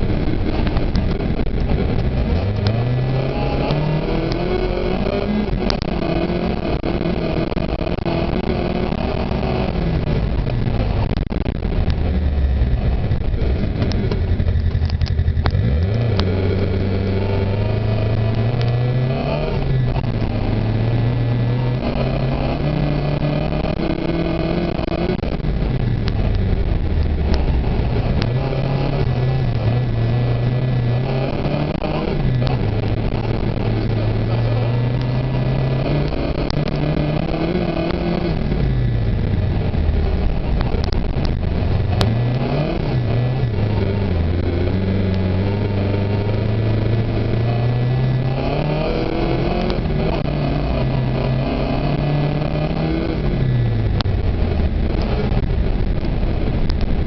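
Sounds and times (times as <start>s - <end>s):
car engine revving: 0.0s - 57.0s
tyre and road noise: 0.0s - 57.0s.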